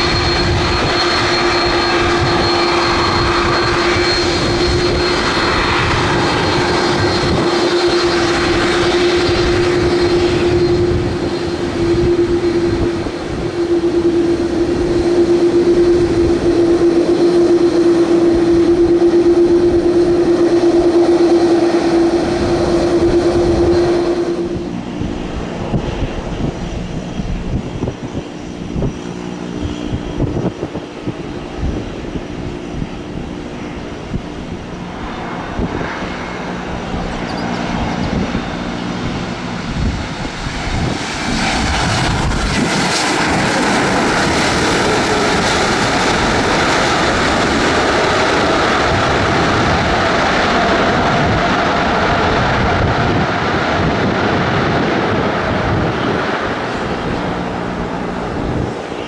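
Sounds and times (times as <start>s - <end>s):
aircraft engines running: 0.0s - 59.0s
high engine whine: 0.0s - 59.0s.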